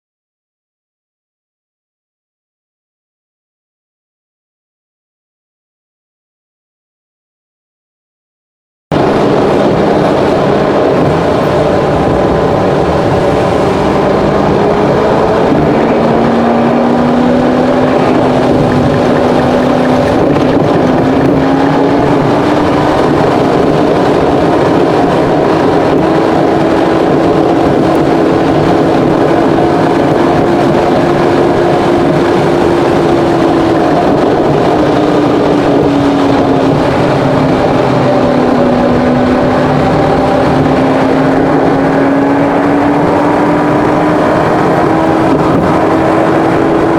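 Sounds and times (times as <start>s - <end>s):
car engine: 8.9s - 46.9s
road noise: 8.9s - 46.9s.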